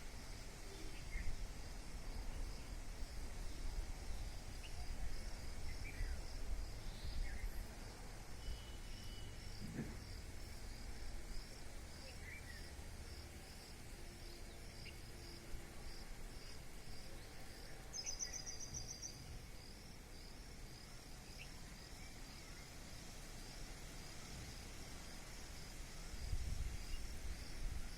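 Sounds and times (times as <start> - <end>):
cricket chirping: 0.0 - 27.9
low rumble of outdoor noise: 0.0 - 27.9.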